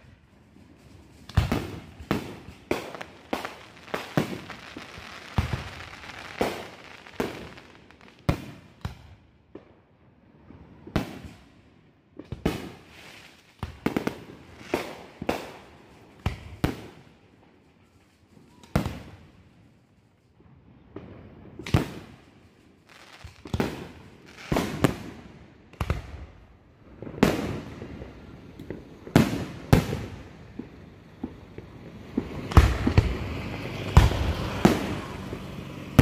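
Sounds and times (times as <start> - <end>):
firework bangs: 0.0 - 9.2, 12.2 - 17.2, 20.8 - 36.0
hissing crackle of fireworks: 0.0 - 36.0.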